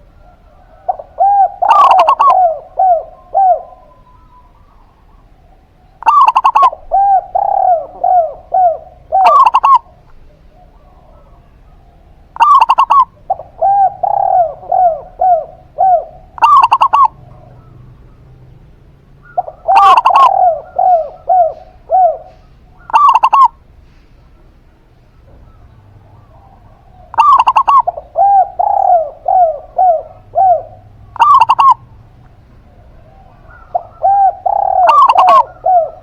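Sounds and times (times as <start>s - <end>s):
doves cooing: 0.0s - 36.0s.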